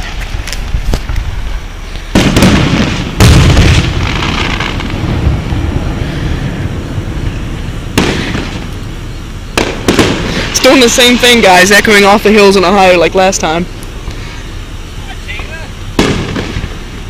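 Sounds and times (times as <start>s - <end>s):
fireworks booming: 0.0s - 17.0s
rolling rumble of echoes: 0.0s - 17.0s.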